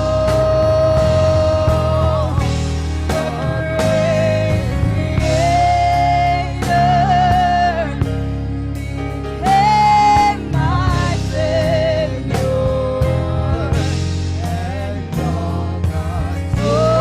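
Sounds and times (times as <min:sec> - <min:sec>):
heavy bass: 0:00.0 - 0:17.0
regular drum beat: 0:00.0 - 0:17.0
slow gospel music: 0:00.0 - 0:17.0.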